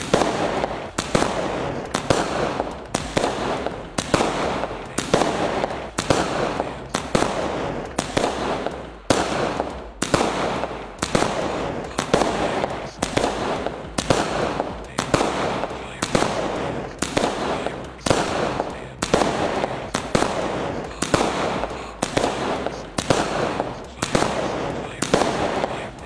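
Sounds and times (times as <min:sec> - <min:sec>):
fireworks crackling: 0:00.0 - 0:26.0
fireworks shells bursting: 0:00.0 - 0:26.0.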